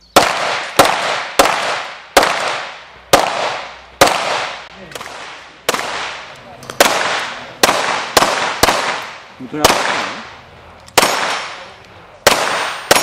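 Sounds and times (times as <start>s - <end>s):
pistol shots echoing: 0.1s - 13.0s.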